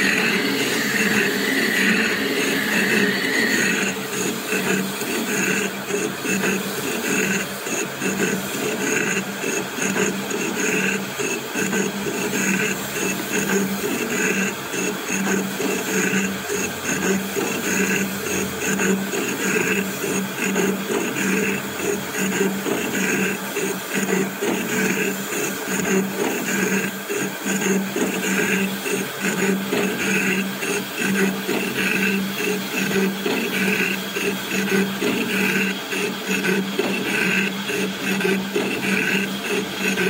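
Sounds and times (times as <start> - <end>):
boring machine whirring: 0.0 - 13.5, 17.2 - 40.0.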